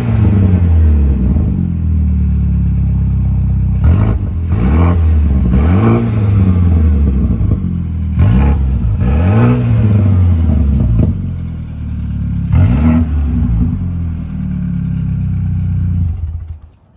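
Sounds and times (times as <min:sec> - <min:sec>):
car engine revving: 0:00.0 - 0:16.7
car engine idling: 0:00.0 - 0:16.9.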